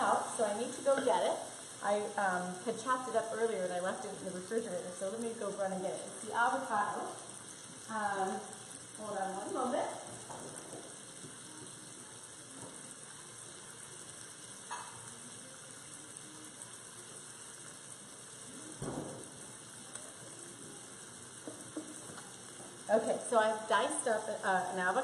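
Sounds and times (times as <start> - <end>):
fat sizzling in a pot: 0.0 - 25.0.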